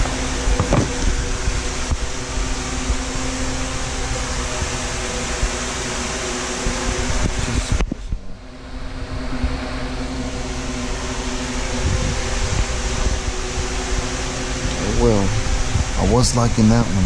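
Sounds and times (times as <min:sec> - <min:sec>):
fan air rushing with motor hum: 0:00.0 - 0:17.0.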